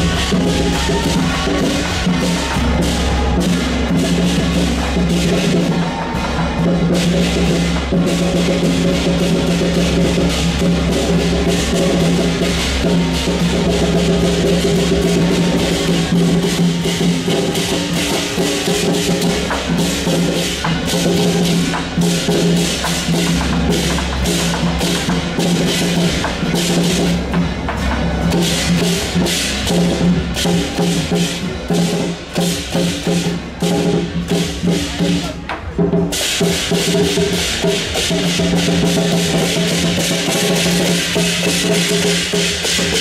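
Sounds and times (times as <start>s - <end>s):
cymbals or gongs clashing: 0.0s - 43.0s
drums playing fast rhythm: 0.0s - 43.0s.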